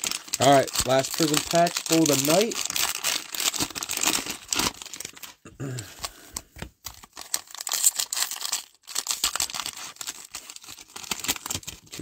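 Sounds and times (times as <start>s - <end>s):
cellophane wrapper crinkling and tearing: 0.0s - 5.4s, 6.0s - 12.0s.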